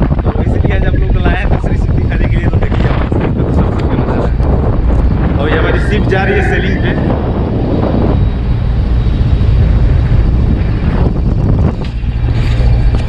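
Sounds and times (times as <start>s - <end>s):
low machinery rumble: 0.0s - 13.0s
wind rushing over microphone: 0.0s - 13.0s.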